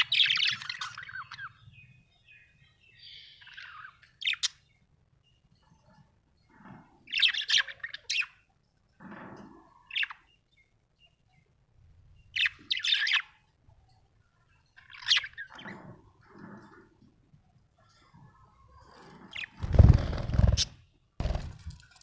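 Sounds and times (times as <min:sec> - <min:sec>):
quiet low bird sounds: 0:00.0 - 0:22.0.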